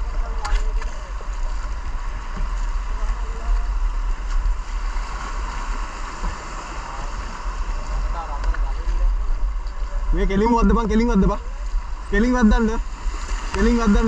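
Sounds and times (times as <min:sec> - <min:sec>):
river rapids rushing: 0:01.0 - 0:14.0.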